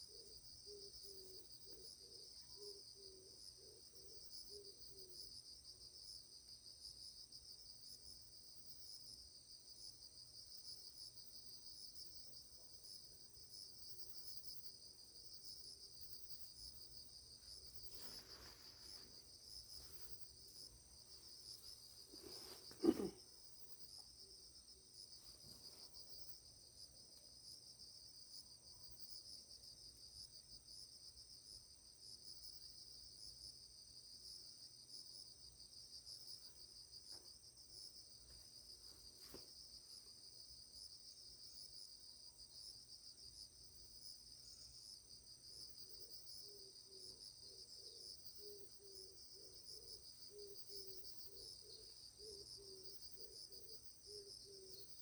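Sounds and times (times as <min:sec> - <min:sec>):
insects trilling: 0:07.8 - 0:55.0.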